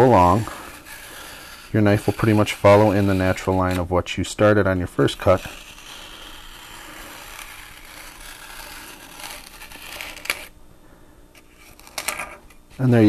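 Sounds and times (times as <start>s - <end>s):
knife blade scraping foam: 0.0s - 3.9s, 5.0s - 10.5s, 11.4s - 13.0s.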